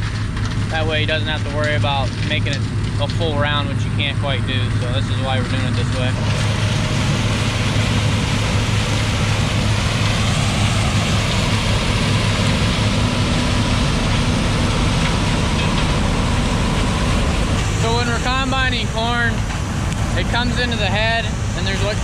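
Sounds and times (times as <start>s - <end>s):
combine harvester diesel drone: 0.0s - 22.0s
threshing machinery rushing: 0.0s - 22.0s.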